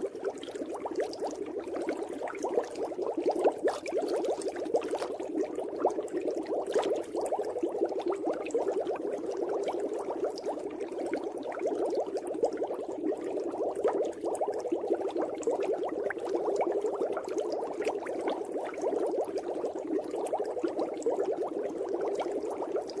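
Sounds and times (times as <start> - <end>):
underwater bubbling: 0.0 - 23.0.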